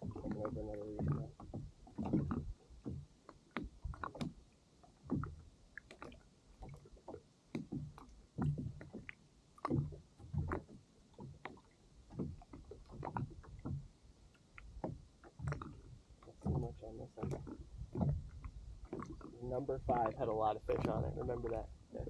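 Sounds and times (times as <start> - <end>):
water lapping against kayak hull: 0.0 - 22.0.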